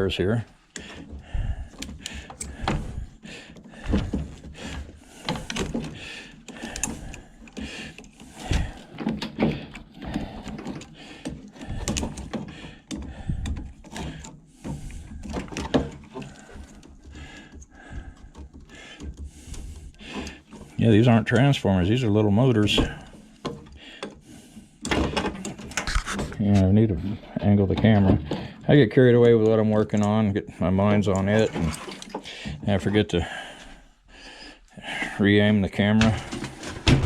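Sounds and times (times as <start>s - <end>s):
clicks knocks and rattles of parts: 0.0s - 33.0s, 35.8s - 37.0s.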